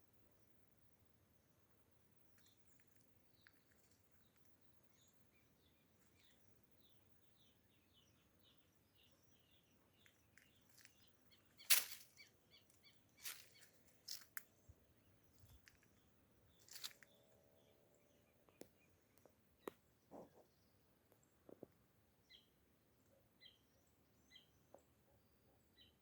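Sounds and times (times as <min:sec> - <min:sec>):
faint bird chirps: 0:00.0 - 0:21.6, 0:22.2 - 0:26.0.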